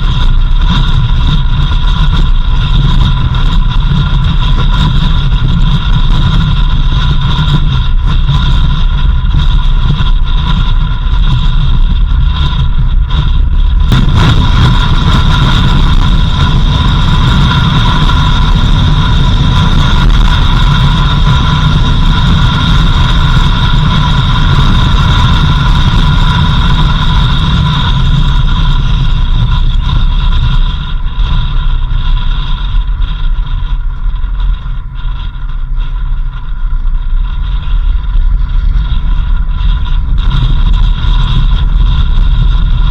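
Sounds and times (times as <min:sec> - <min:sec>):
vehicle engine and road rumble: 0:00.0 - 0:42.9.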